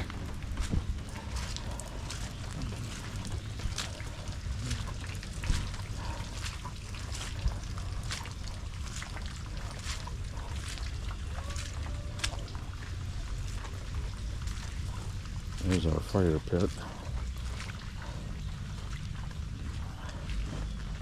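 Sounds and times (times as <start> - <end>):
heavy rain: 0.0 - 18.4
low rumble: 0.0 - 21.0
water drips ticking: 0.0 - 21.0
water trickling and pouring: 0.0 - 21.0.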